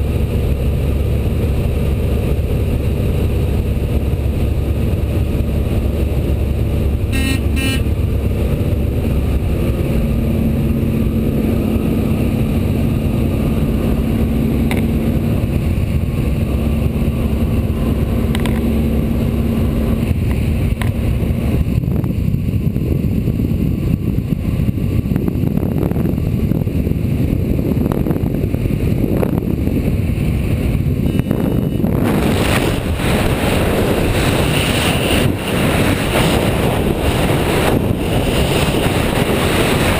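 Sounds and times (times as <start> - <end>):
biplane radial engine drone: 0.0 - 39.9
rush of wind: 0.0 - 39.9.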